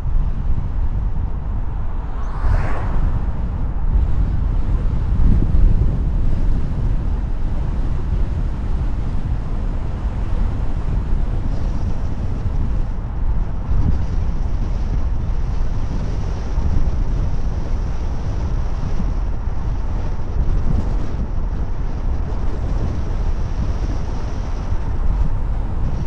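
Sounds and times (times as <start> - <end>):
road and wind noise: 0.0 - 26.0
wind buffeting microphone: 0.0 - 26.0.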